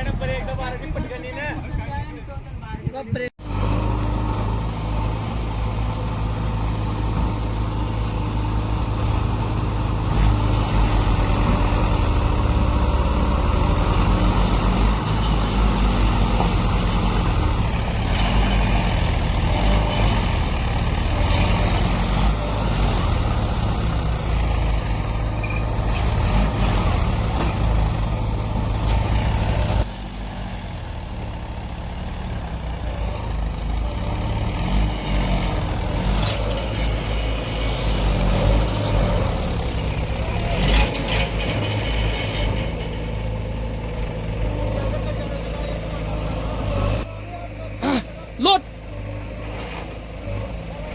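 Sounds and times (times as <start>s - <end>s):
heavy machinery diesel engine: 0.0s - 50.9s.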